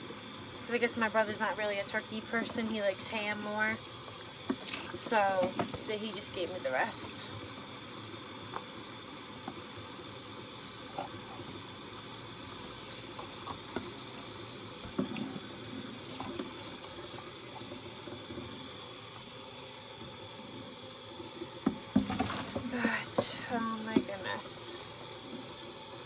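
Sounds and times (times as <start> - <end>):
faucet running into sink: 0.0 - 26.0.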